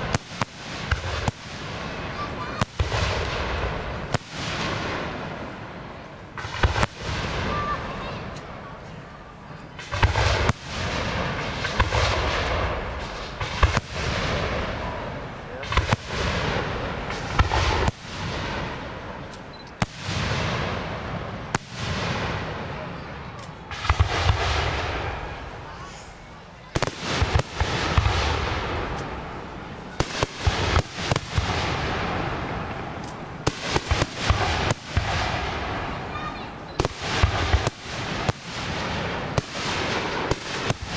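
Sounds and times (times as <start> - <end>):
hissing crackling firework wash: 0.0 - 40.9.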